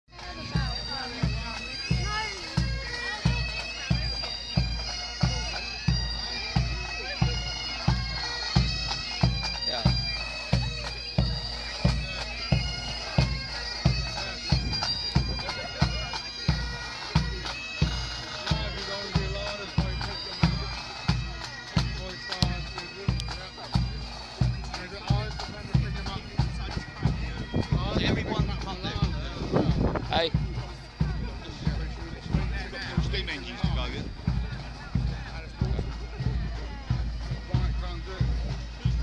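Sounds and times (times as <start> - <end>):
bagpipes playing: 0.1 - 39.0.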